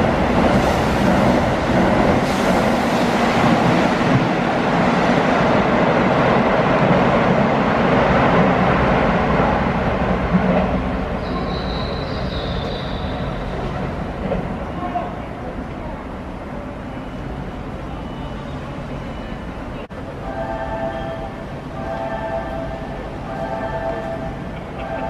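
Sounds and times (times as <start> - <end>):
train wheels rushing on rail: 0.0 - 25.0.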